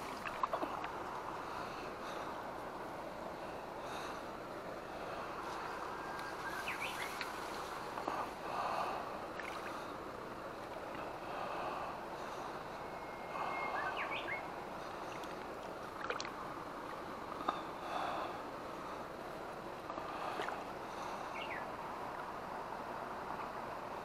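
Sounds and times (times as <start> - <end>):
rush of flowing water: 0.0 - 24.0.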